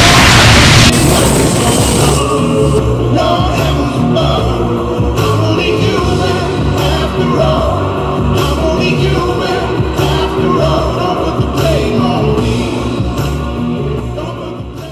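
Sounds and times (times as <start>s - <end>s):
man singing: 0.0s - 14.9s
pop-rock song: 0.0s - 14.9s.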